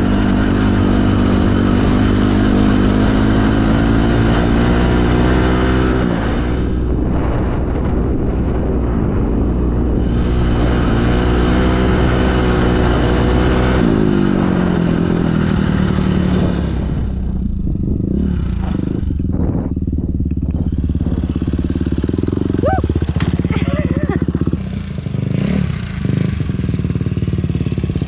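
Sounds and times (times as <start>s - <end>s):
dirt bike engine: 0.0s - 28.0s.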